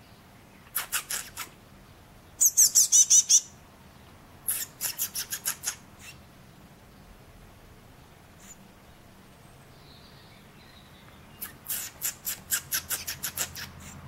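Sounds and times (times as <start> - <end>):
fledgling birds chirping: 0.0 - 7.2, 7.8 - 14.0.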